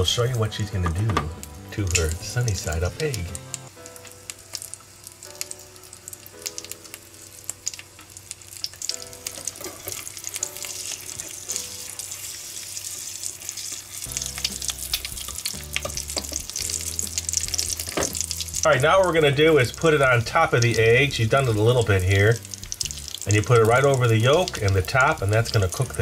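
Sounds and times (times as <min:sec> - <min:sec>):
egg sizzling in grease: 0:00.0 - 0:26.0.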